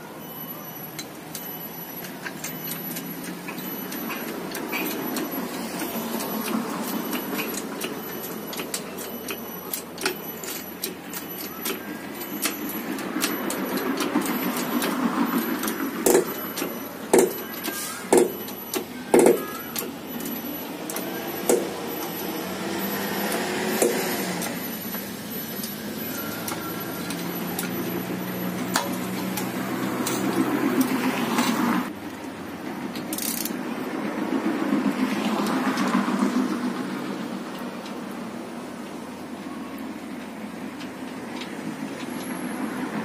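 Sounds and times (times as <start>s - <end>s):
road traffic passing: 0.0s - 43.0s.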